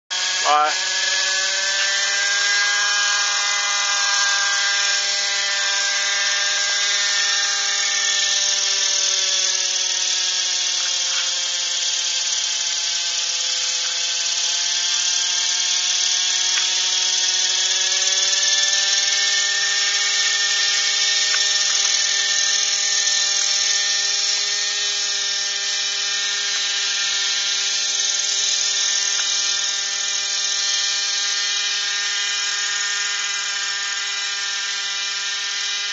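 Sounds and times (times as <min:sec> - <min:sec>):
model helicopter engine whine: 0:00.0 - 0:35.9
rotor blades hissing: 0:00.1 - 0:35.0.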